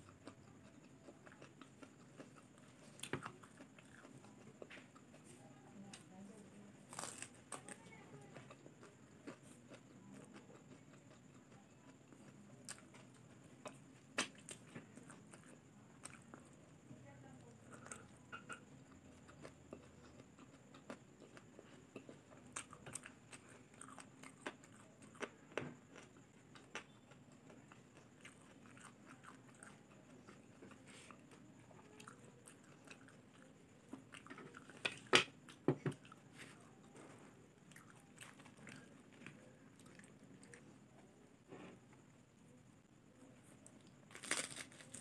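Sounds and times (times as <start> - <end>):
crunchy chewing clicks: 0.0 - 6.1, 6.9 - 16.8, 17.4 - 36.4, 37.0 - 41.2, 43.4 - 45.0.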